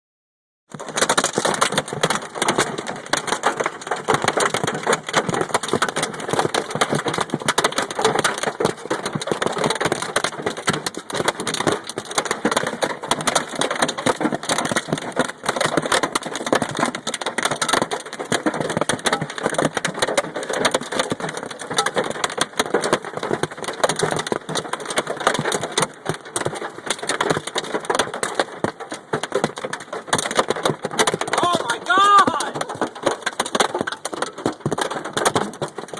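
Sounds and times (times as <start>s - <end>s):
hail clattering on hard surfaces: 0.7s - 35.9s.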